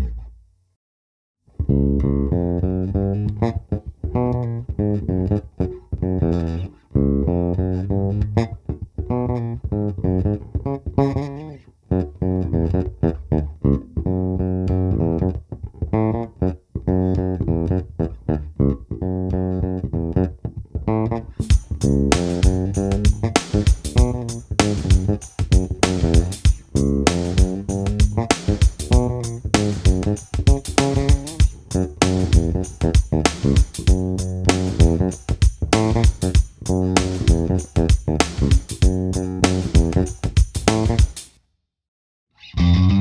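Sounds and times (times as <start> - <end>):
electric bass guitar plucked: 0.0 - 0.4, 1.5 - 41.2, 42.4 - 43.0.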